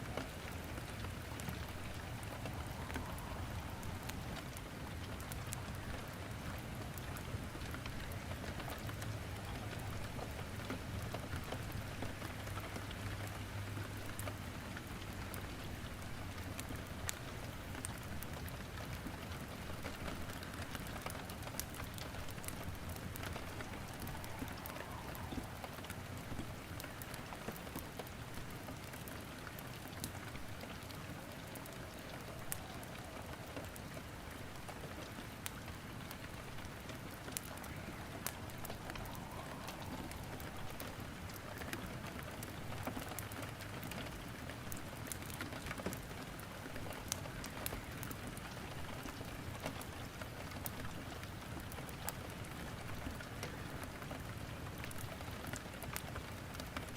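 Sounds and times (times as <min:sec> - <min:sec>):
steady rain falling: 0:00.0 - 0:56.9
wood crackling in fireplace: 0:00.0 - 0:56.9.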